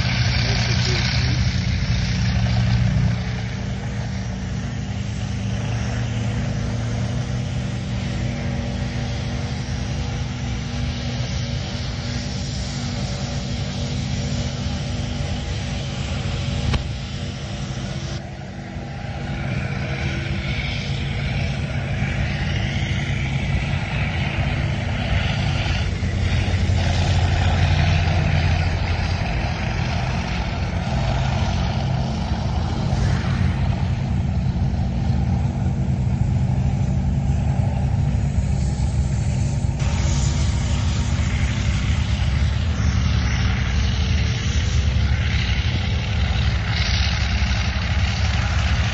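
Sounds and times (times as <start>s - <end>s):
tank engines running: 0.0s - 48.9s.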